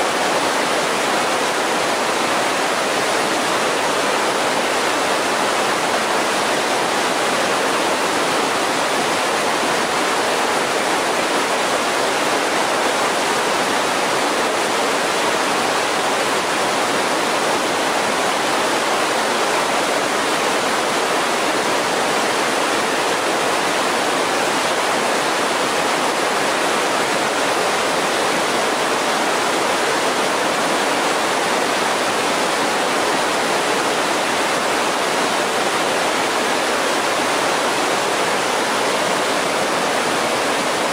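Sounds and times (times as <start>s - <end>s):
creek rushing over boulders: 0.0s - 40.9s.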